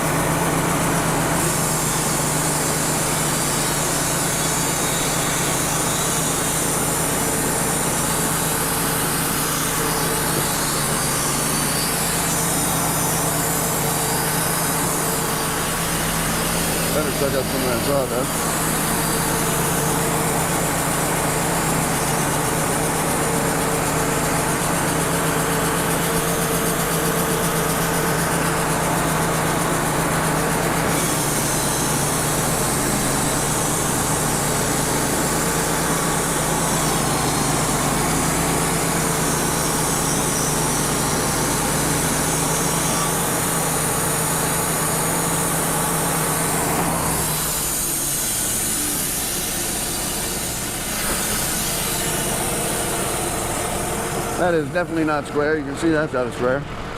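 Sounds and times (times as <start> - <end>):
band saw blade cutting log: 0.0 - 56.6
engine hum: 0.0 - 56.9.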